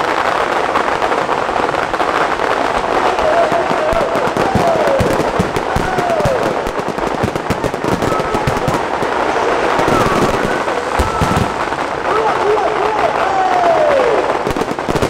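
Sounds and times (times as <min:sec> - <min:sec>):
falling whistling fireworks: 0:00.0 - 0:15.0
fireworks cracking and popping: 0:00.0 - 0:15.0.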